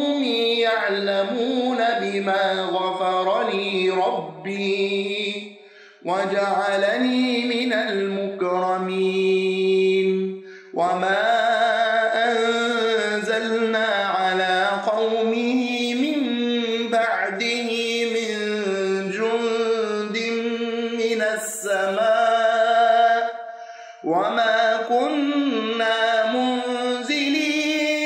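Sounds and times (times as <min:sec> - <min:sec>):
man reciting melodically: 0:00.0 - 0:28.0.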